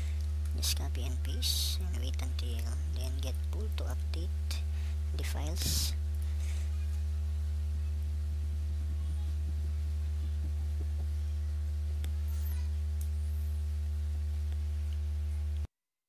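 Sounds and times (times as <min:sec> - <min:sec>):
electrical mains hum: 0:00.0 - 0:15.7.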